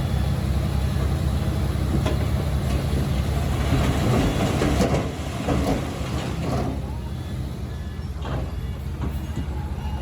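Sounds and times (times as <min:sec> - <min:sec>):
heavy diesel engine running: 0:00.0 - 0:10.0.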